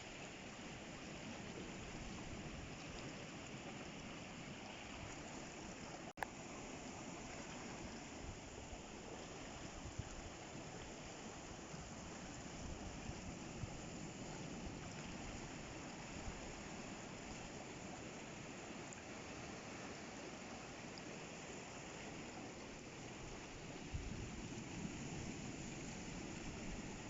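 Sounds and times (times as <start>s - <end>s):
sea water washing over rocks: 0.2s - 27.0s.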